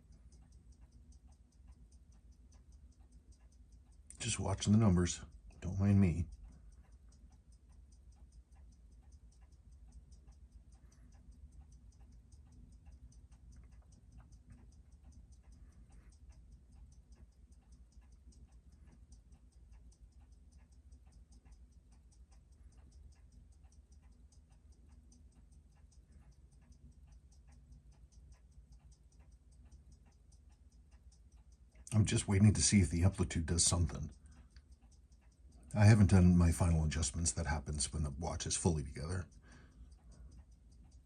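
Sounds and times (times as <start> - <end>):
low steady hum: 0.0 - 41.0
watch ticking: 0.0 - 41.0.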